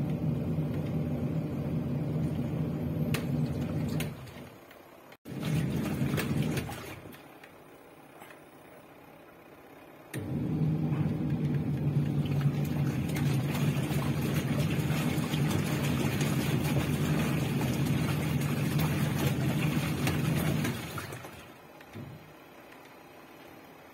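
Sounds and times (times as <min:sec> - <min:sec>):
washing machine running: 0:00.0 - 0:23.9.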